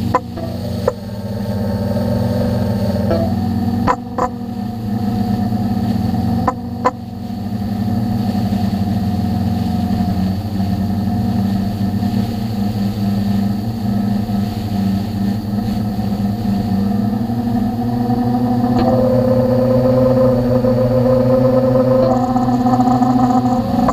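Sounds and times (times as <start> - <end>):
drone propellers buzzing: 0.0 - 23.9.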